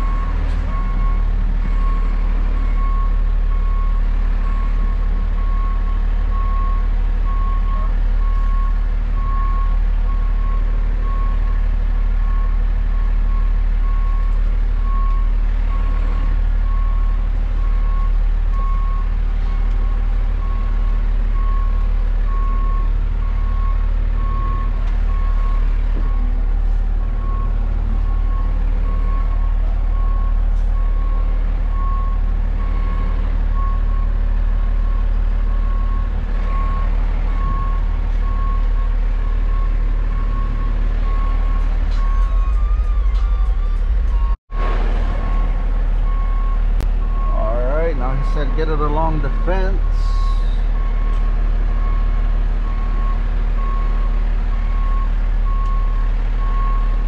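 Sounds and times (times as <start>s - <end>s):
truck backup alarm beeping: 0.0s - 57.0s
truck engine running: 0.0s - 57.0s.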